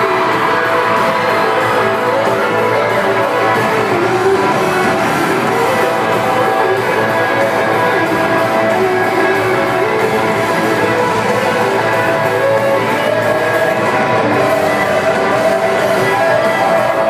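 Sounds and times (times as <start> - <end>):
guitar: 0.0 - 17.0
live band playing country-pop: 0.0 - 17.0.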